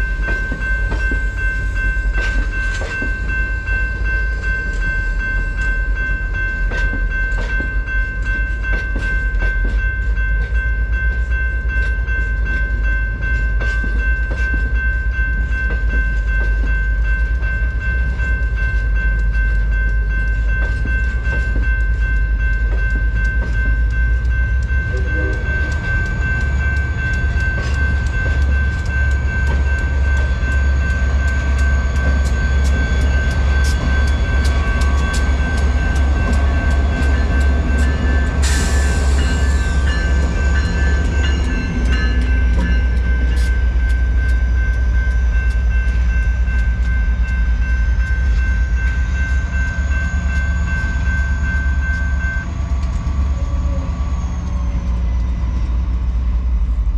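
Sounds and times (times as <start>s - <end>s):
crossing bell ringing: 0.0s - 56.9s
diesel train rumbling: 0.0s - 56.9s
train wheel clicks: 0.0s - 56.9s.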